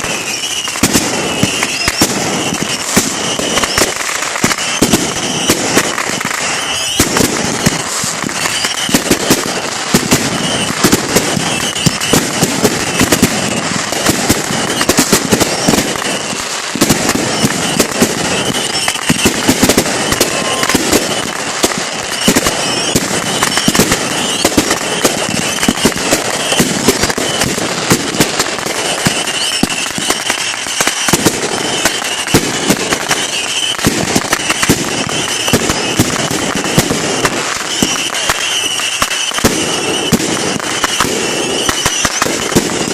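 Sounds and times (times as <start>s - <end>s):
fireworks crackling and banging: 0.0s - 42.9s.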